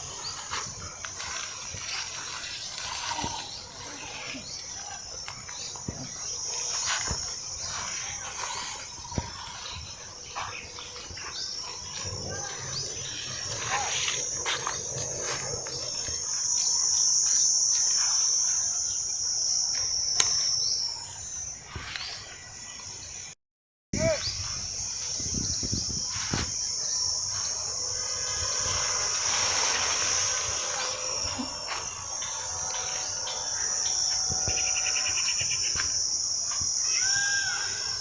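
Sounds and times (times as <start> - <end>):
high-pitched insect chorus: 0.0 - 23.4, 24.0 - 38.0
short insect calls and clicks: 0.0 - 23.4, 24.0 - 38.0.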